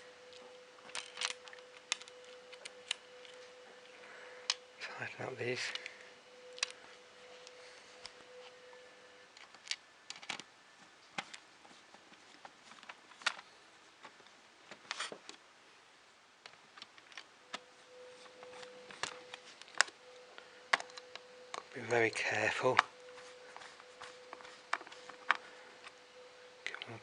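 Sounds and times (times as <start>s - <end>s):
parts being handled: 0.1s - 10.5s, 11.1s - 15.4s, 16.5s - 27.0s.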